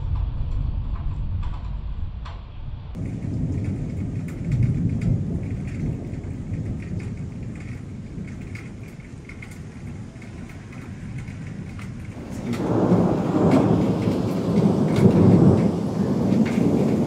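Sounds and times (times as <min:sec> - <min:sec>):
thunder rumbling: 0:00.0 - 0:17.0
heavy rain: 0:03.0 - 0:17.0.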